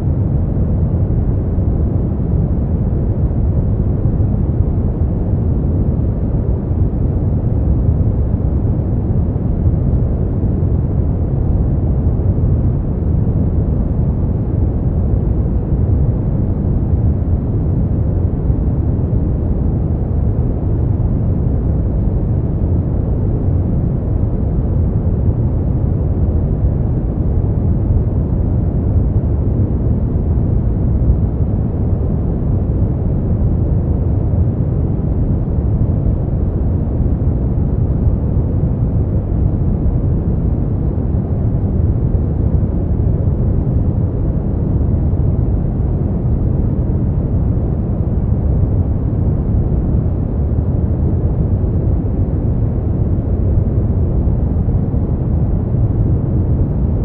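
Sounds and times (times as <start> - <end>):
deep muffled brown noise: 0.0 - 57.0.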